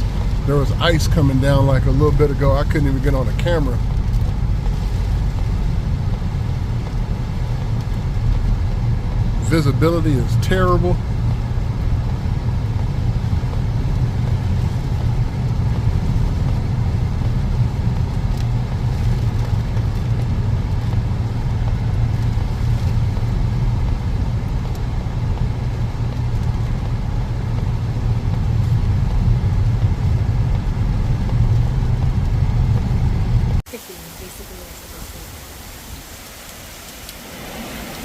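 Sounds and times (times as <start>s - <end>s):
car engine and tyre noise: 0.0s - 38.0s.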